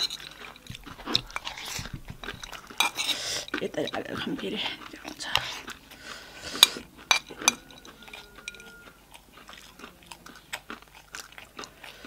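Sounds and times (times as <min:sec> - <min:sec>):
crunchy food chewing: 0:00.0 - 0:12.0.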